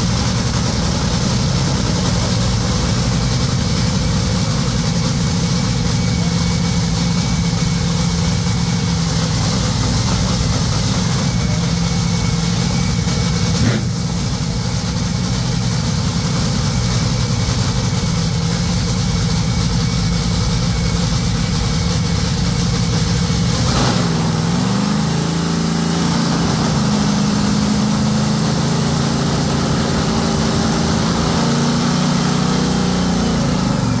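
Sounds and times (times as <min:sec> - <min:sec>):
dragster engine idling and revving: 0:00.0 - 0:34.0.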